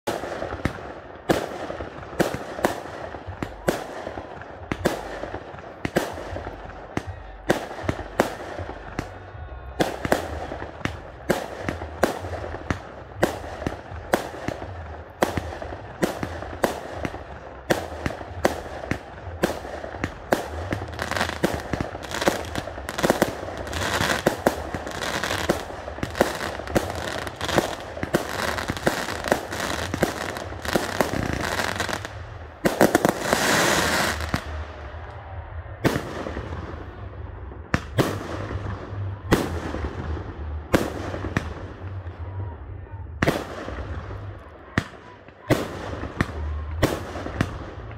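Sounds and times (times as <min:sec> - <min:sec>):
fireworks bursting: 0:00.0 - 0:47.9.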